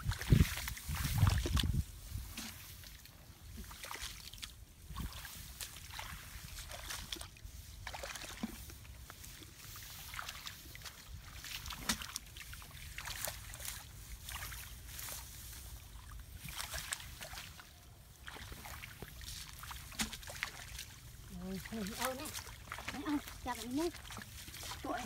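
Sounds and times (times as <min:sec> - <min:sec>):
grass rustling: 0:00.0 - 0:25.0
hands sloshing in muddy water: 0:00.0 - 0:25.0.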